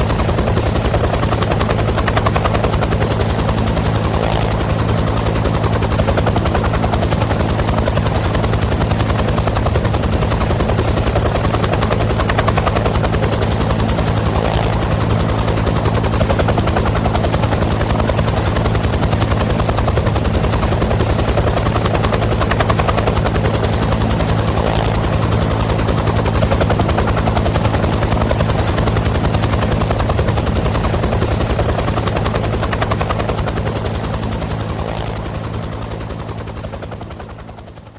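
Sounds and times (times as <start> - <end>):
helicopter rotor blades chopping: 0.0 - 37.9.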